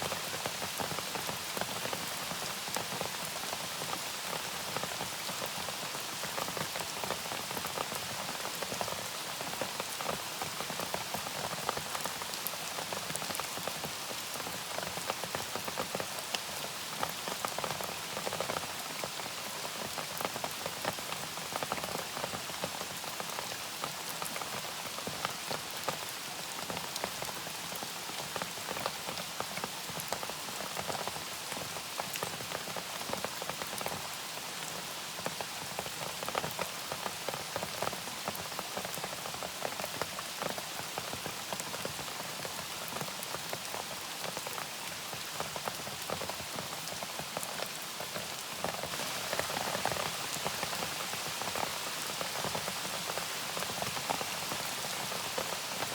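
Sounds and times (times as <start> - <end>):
rain falling: 0.0 - 55.9
raindrops ticking on a surface: 0.1 - 55.9.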